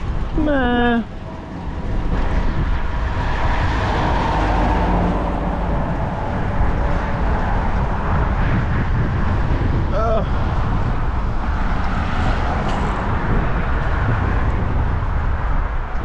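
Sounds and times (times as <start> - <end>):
highway traffic: 0.0 - 16.0
wind rumble on microphone: 0.0 - 16.0
vehicle passing: 0.9 - 15.9.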